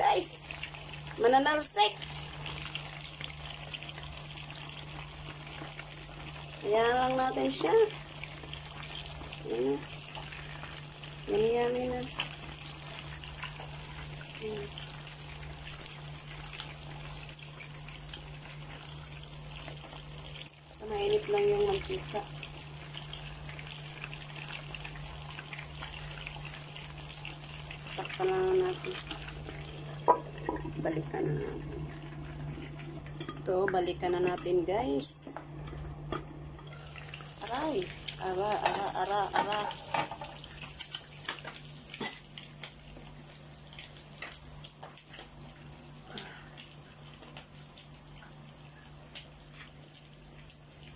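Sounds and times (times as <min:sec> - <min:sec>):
fish deep-frying in oil: 0:00.0 - 0:50.9.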